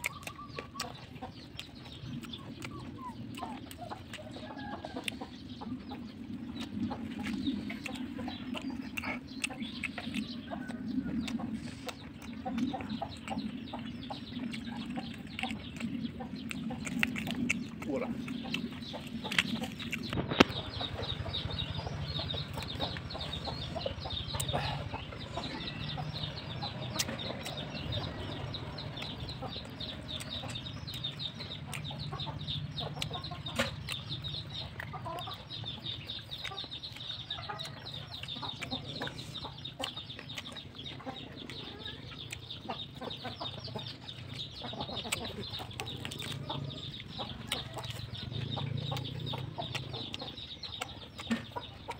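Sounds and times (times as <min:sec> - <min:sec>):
chickens clucking and cheeping: 0:00.0 - 0:51.9
person chewing: 0:00.0 - 0:51.9.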